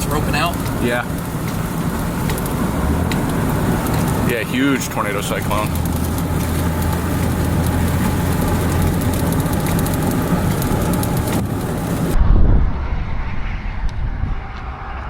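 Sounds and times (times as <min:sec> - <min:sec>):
low buffeting rumble: 0:00.0 - 0:15.0
vehicle hum: 0:00.0 - 0:15.0.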